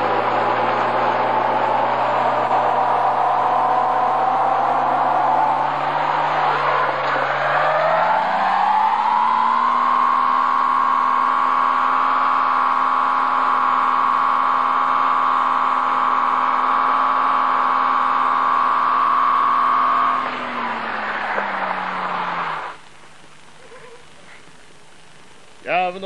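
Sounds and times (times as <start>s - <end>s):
car engine at high revs: 0.0s - 23.5s.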